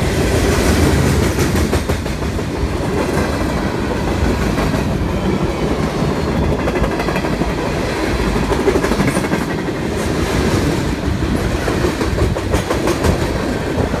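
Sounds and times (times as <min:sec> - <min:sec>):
train wheels rumbling on rail: 0:00.0 - 0:14.0
wheels clickety-clack over rail joints: 0:00.0 - 0:14.0.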